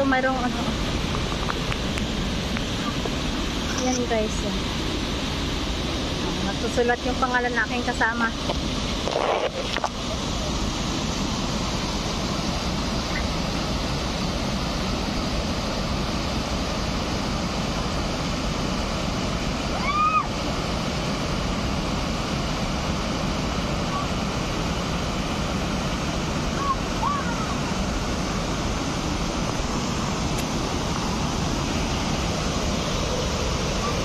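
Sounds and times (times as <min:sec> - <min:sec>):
water rushing over weir: 0:00.0 - 0:34.0.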